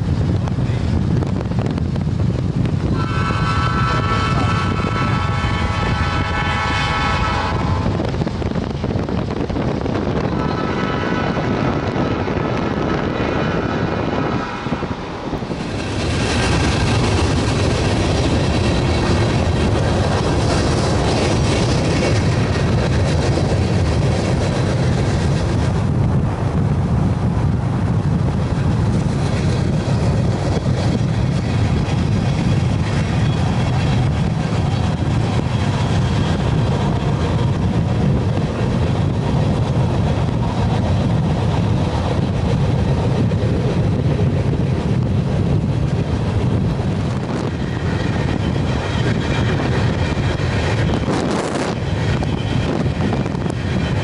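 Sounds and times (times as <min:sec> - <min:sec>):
car road and wind rumble: 0:00.0 - 0:54.0.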